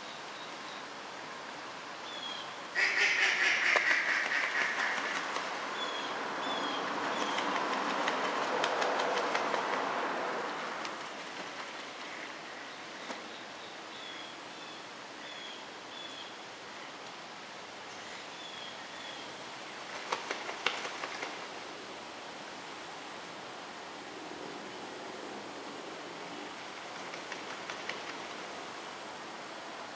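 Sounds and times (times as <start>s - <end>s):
distant background hiss: 0.0s - 29.9s.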